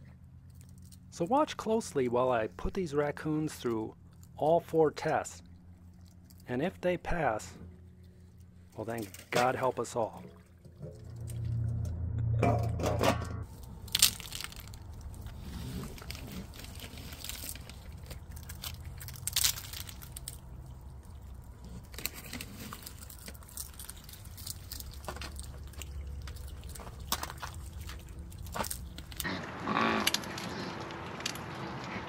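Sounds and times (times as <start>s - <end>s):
raccoons crunching food: 0.0s - 12.0s, 13.5s - 32.0s
steady low hum: 0.0s - 32.0s.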